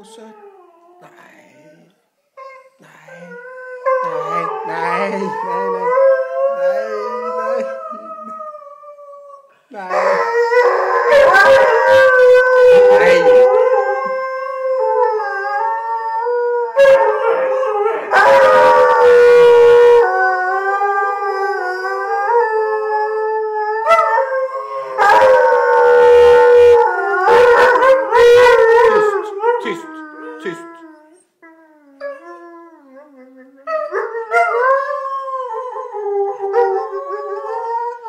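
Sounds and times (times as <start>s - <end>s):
dogs howling: 3.2s - 38.0s.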